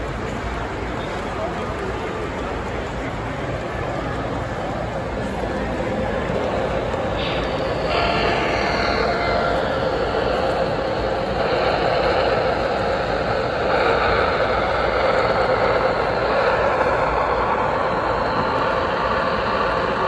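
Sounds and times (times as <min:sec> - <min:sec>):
model train rolling on track: 0:00.0 - 0:20.0.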